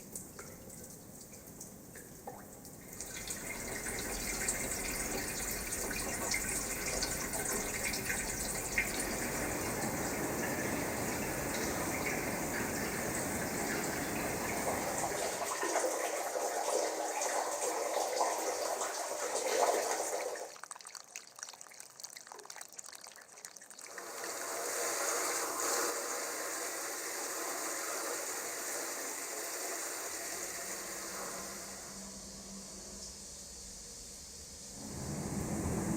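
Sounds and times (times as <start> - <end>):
water gushing through drain pipe: 0.0 - 35.9.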